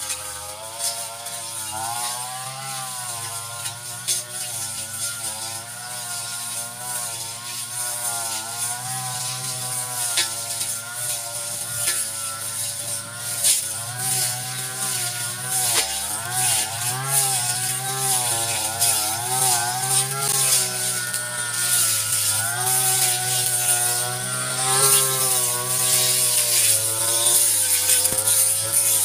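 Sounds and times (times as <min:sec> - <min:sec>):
brush cutter engine: 0:00.0 - 0:29.0.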